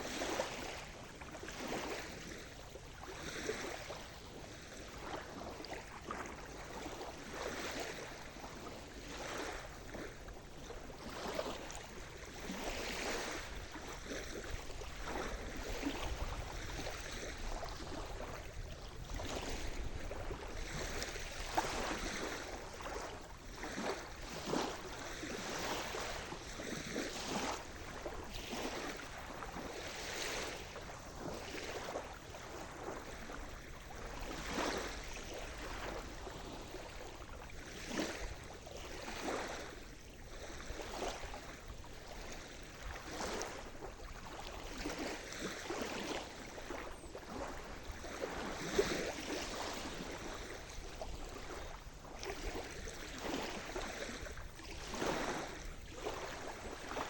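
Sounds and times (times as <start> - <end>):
small waves splashing on shore: 0.0 - 57.0.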